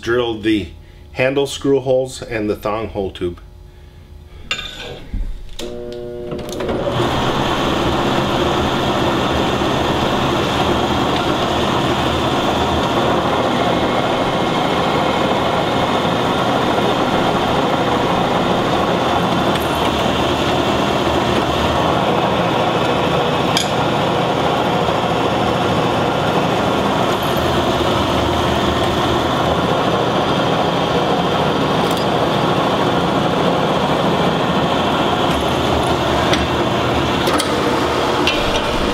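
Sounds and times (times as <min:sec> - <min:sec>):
drill press drilling steel: 0:05.6 - 0:38.9.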